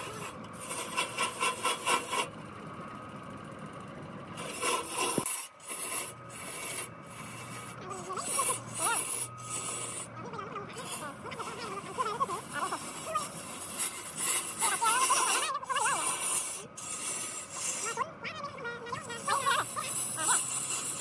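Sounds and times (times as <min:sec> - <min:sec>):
cloth rubbing on spinning log: 0:00.0 - 0:02.3, 0:04.4 - 0:18.0, 0:19.0 - 0:21.0.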